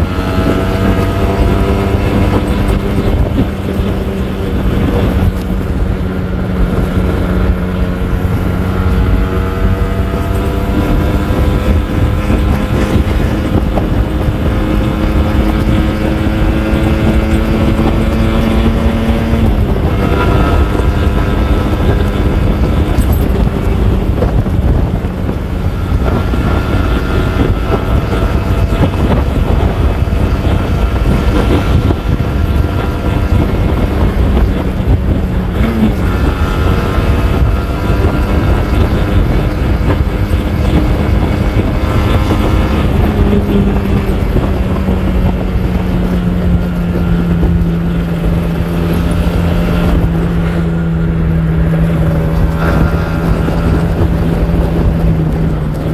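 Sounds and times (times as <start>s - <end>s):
two-stroke motorcycle engine running: 0.0s - 55.9s
wind noise on microphone: 0.0s - 55.9s.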